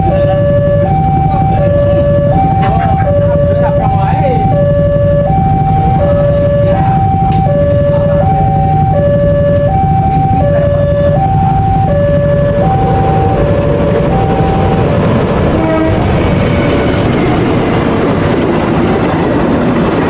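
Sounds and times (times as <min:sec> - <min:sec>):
steady low rumble: 0:00.0 - 0:20.0
two-tone hi-lo siren: 0:00.0 - 0:20.0.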